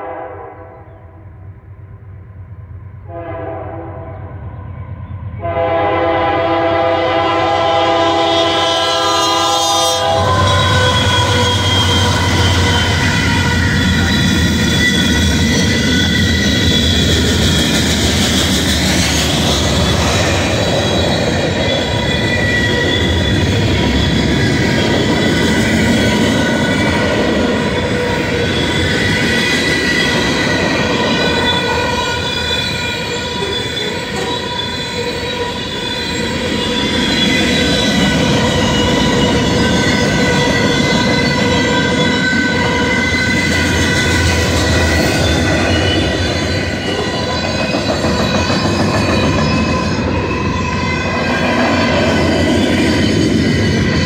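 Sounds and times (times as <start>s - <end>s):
freight train wheels rumbling: 0.0s - 54.0s
steel wheels squealing on rail: 4.1s - 54.0s.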